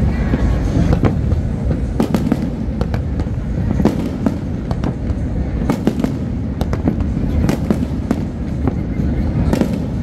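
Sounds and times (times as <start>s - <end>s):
continuous low rumble: 0.0s - 10.0s
fireworks bangs and crackles: 0.0s - 10.0s.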